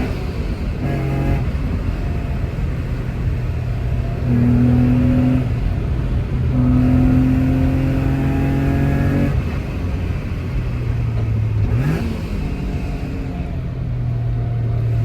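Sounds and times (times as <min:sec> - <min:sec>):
car exhaust revving: 0:00.0 - 0:15.0.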